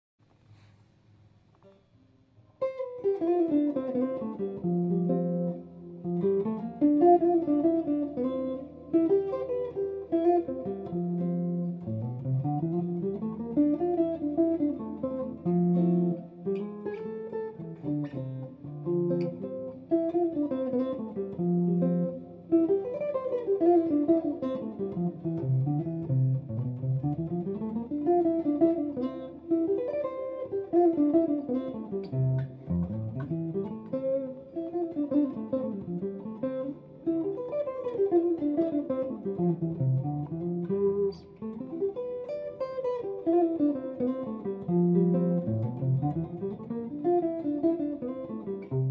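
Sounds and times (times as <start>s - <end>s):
electric guitar playing: 1.6s - 48.9s.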